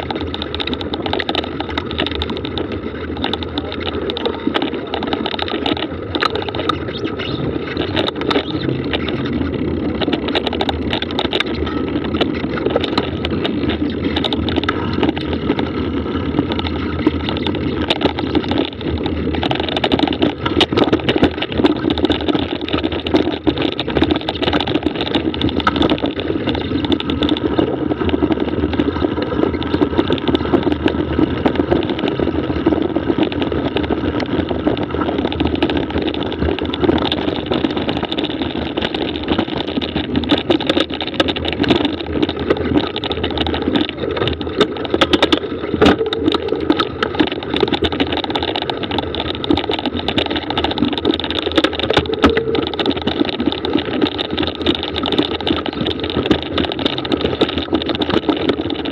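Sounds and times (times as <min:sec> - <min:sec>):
bike clicks and knocks: 0:00.0 - 0:58.9
bike tyres rumbling on dirt: 0:00.0 - 0:58.9.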